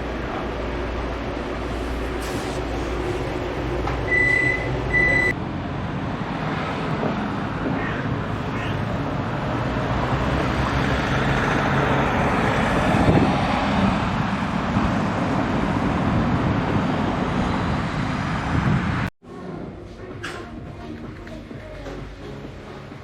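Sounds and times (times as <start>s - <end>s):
low traffic rumble: 0.0s - 23.0s.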